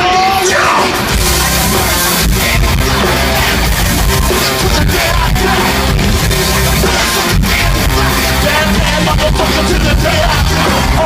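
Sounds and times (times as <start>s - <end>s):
loud rock-rap music: 0.0s - 11.0s.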